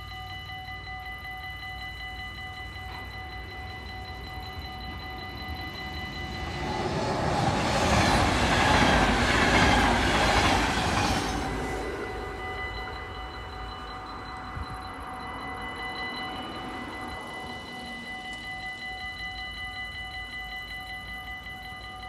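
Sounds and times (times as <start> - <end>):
level crossing warning bells: 0.0 - 22.0
train passing wheel and rail noise: 0.0 - 22.0.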